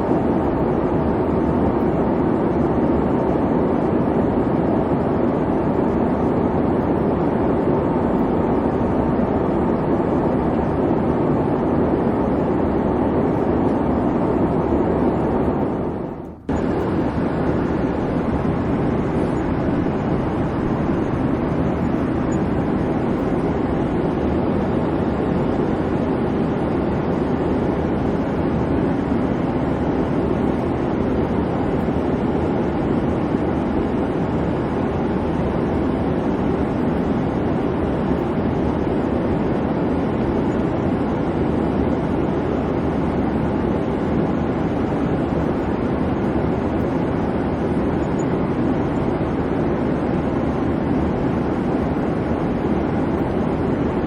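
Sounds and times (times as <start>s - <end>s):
airliner cabin engine hum: 0.0s - 54.0s.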